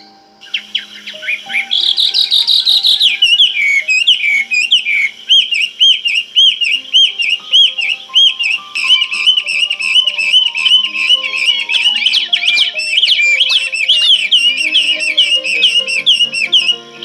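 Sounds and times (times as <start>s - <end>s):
bird song whistling: 0.0s - 17.0s
soft piano music: 0.0s - 17.0s.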